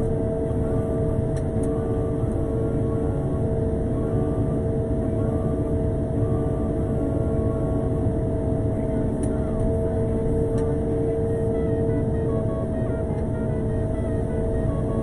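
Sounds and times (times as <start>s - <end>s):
road sweeper rumble and whine: 0.0s - 15.0s.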